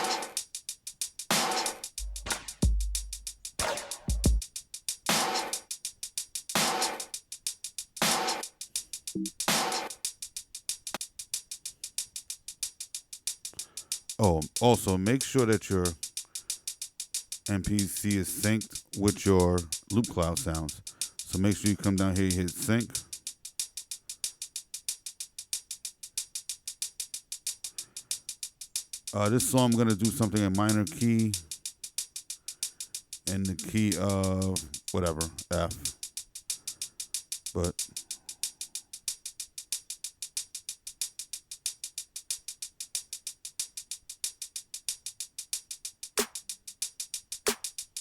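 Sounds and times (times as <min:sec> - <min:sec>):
hi-hat drum loop: 0:00.0 - 0:48.0.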